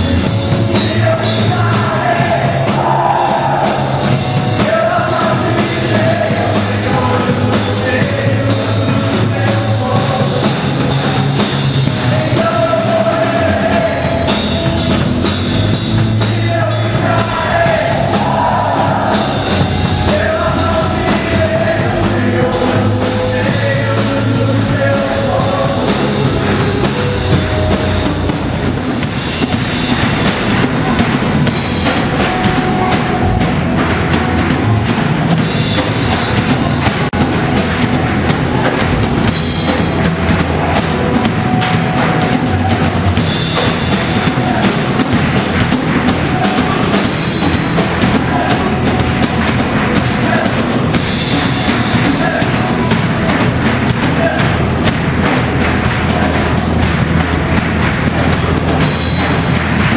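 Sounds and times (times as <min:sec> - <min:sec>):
person singing: 0:00.0 - 0:15.4, 0:16.0 - 0:30.0, 0:31.5 - 0:55.4
drum kit beat: 0:00.0 - 0:59.9
gospel rock song: 0:00.0 - 0:59.9.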